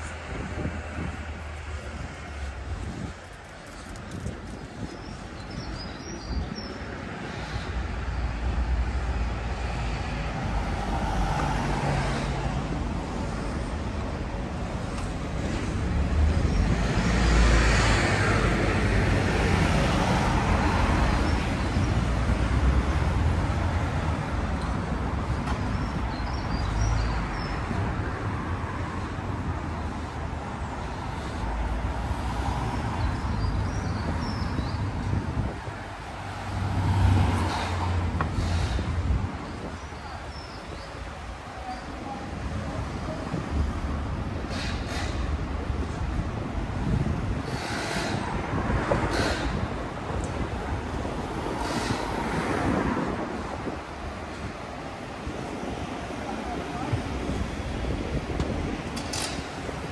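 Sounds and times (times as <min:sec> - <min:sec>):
cars on road: 0:00.0 - 0:59.9.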